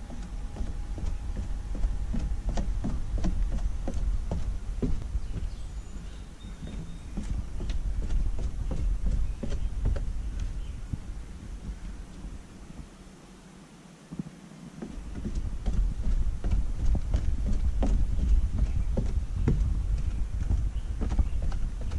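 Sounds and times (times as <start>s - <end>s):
footsteps on wooden stairs: 0.0s - 13.0s, 14.1s - 21.9s
wind on microphone: 0.0s - 13.2s, 14.1s - 21.9s.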